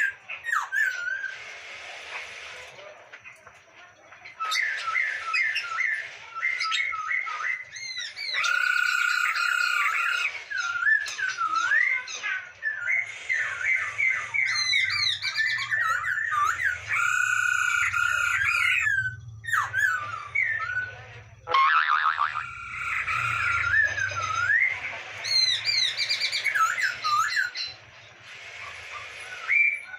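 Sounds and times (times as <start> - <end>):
laughingthrush singing: 4.2 - 29.9.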